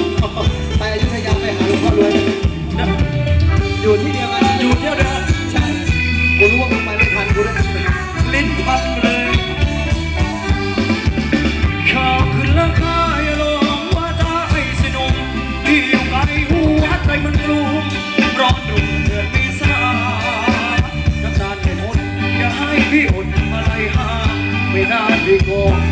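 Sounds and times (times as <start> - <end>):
person singing: 0.0 - 11.0, 11.6 - 25.9
live band playing dance music: 0.0 - 25.9.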